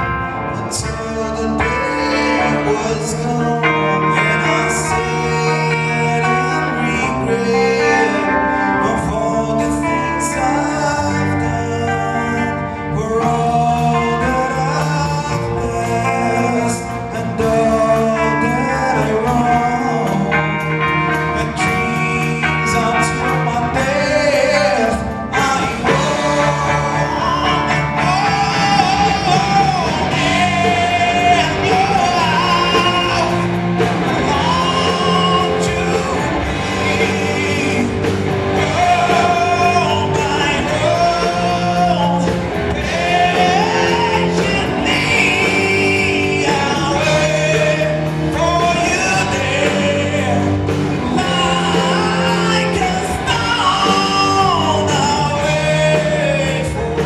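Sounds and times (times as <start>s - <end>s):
person singing: 0.0s - 57.0s
rock band playing live: 0.0s - 57.0s.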